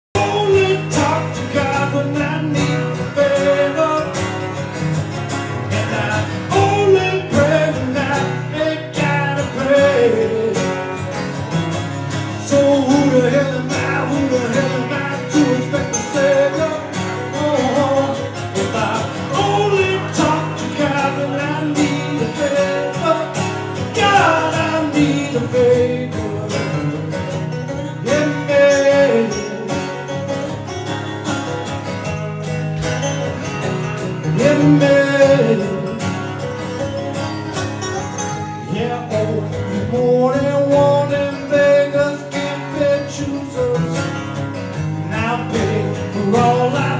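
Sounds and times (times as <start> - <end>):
man singing into a microphone: 0.1 - 4.6, 5.6 - 27.3, 27.9 - 30.0, 34.2 - 36.3, 38.7 - 46.9
acoustic guitars playing: 0.1 - 46.9.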